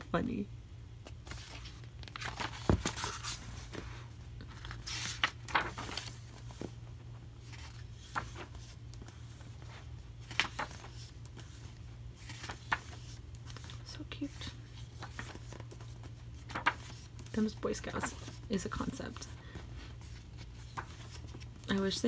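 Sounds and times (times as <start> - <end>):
low steady hum: 0.0 - 22.0
pages turning and rustling: 1.0 - 22.0.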